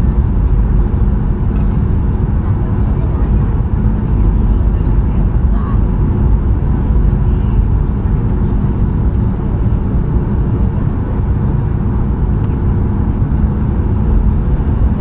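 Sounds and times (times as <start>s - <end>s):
airflow noise: 0.0s - 15.0s
low engine rumble in aircraft cabin: 0.0s - 15.0s.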